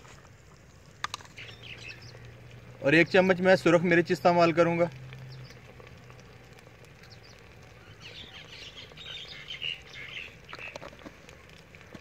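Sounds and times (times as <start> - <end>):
birds chirping: 0.9 - 12.0.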